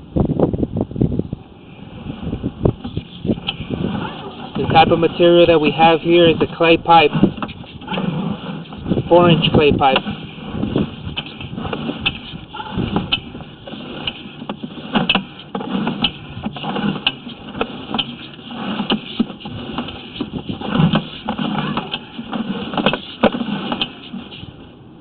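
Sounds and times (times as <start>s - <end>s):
cable knocking and rattling in pipe: 2.7s - 24.6s.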